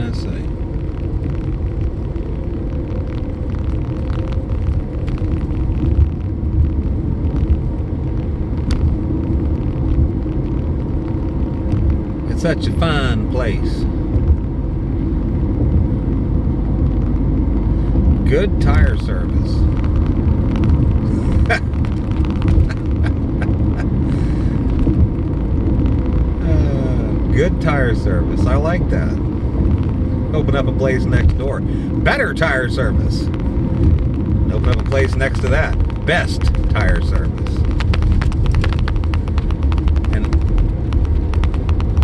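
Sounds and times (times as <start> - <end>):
vehicle engine and tyres rumbling: 0.0 - 42.0.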